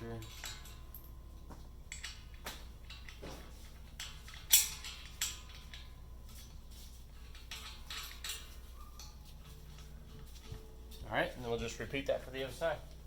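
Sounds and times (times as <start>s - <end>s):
metal hardware clinking: 0.0s - 13.0s.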